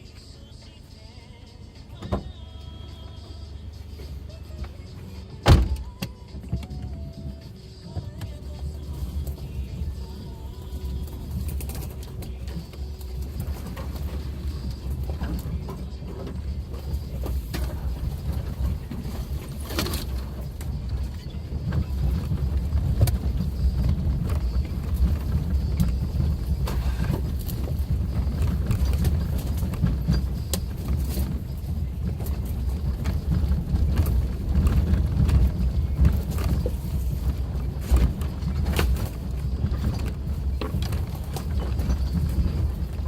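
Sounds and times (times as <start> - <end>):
car engine and tyres drone: 0.0 - 43.0.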